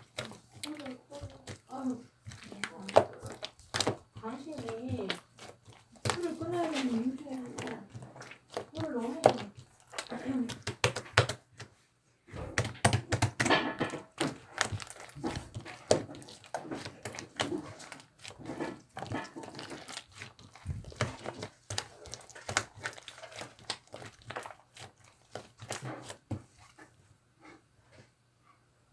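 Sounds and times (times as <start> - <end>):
slime squishing with sticky clicks: 0.0 - 11.7, 12.3 - 26.8.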